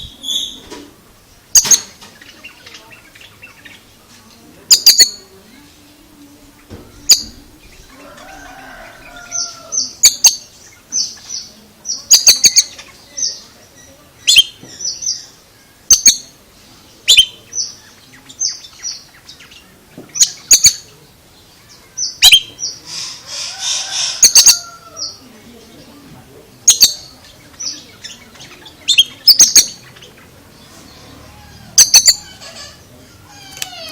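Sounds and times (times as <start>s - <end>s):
bird chirping: 0.0s - 33.9s.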